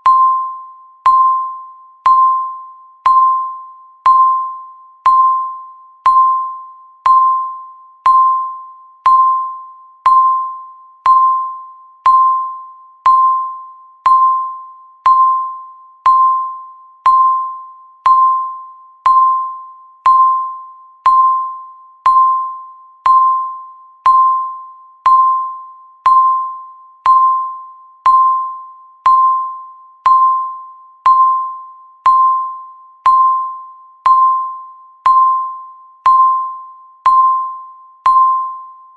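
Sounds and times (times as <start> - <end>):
countdown timer beeping: 0.0 - 38.8.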